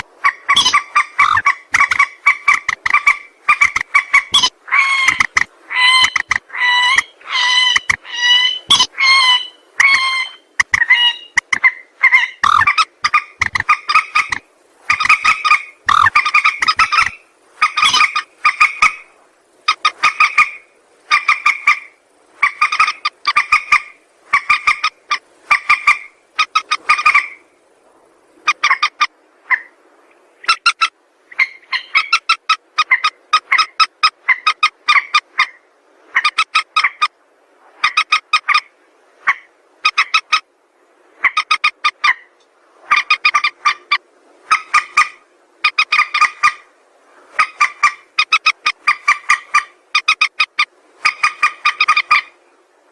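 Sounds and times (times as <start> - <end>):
rail bird harsh croaking calls: 0.0 - 27.5, 28.4 - 29.7, 30.4 - 37.1, 37.8 - 40.5, 41.2 - 42.3, 42.9 - 46.7, 47.4 - 52.4.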